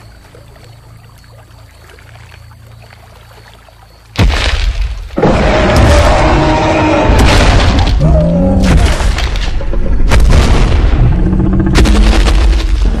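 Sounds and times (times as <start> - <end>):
constant low rumble: 0.0 - 13.0.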